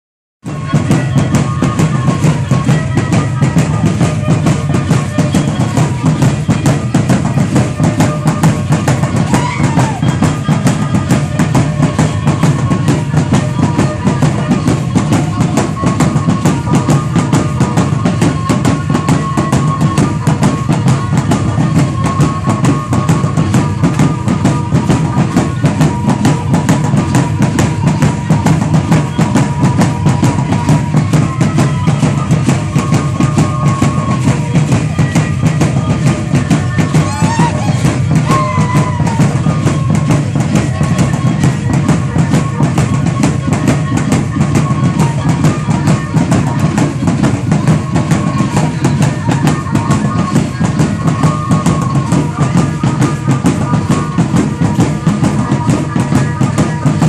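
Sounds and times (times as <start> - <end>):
fast dense drumming: 0.4 - 57.0.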